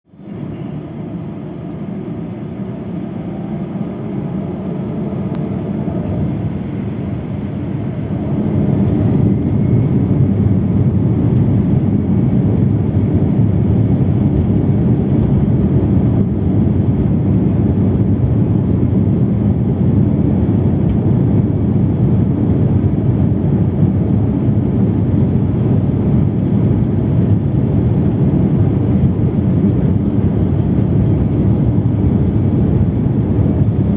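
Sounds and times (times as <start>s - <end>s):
airplane engines during takeoff: 0.1s - 33.9s.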